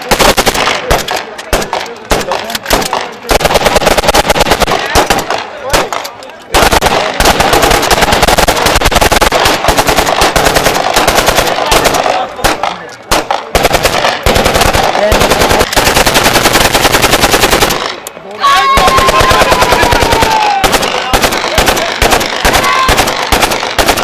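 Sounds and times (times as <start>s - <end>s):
automatic gunfire bursts: 0.0s - 18.0s, 18.6s - 24.0s.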